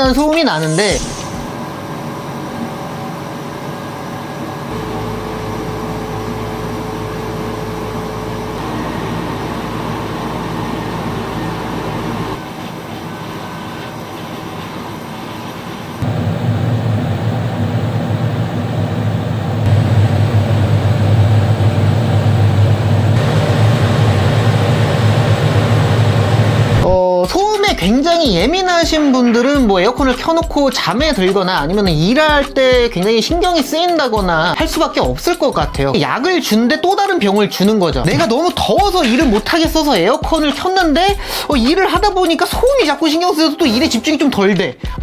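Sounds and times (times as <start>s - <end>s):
portable air conditioner humming: 0.0s - 45.0s
window air conditioner running: 1.4s - 45.0s.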